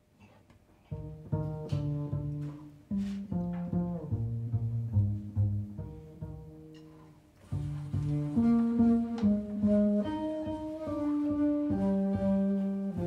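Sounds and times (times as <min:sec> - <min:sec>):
double bass played pizzicato: 0:00.8 - 0:13.0.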